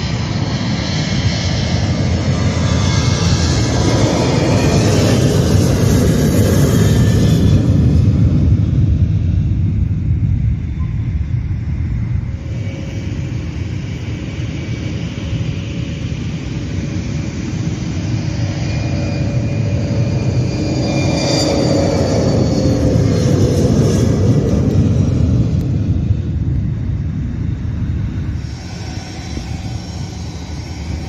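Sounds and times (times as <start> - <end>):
jet engine whine: 0.0 - 31.0
jet engines roaring: 0.0 - 31.0.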